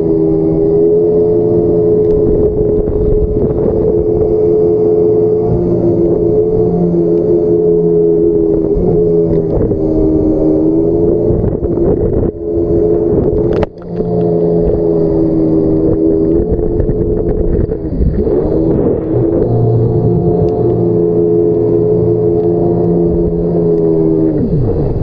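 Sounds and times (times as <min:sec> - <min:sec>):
jet ski engine running: 0:00.0 - 0:25.0.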